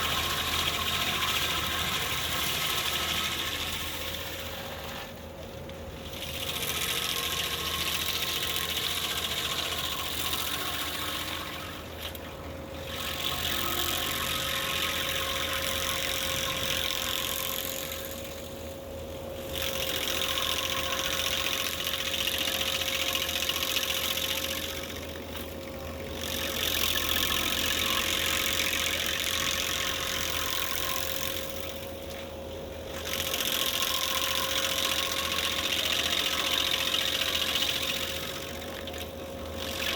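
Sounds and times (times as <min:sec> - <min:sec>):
engine and hydraulics whining: 0:00.0 - 0:39.9
grinding wheel chewing stump: 0:00.0 - 0:39.9.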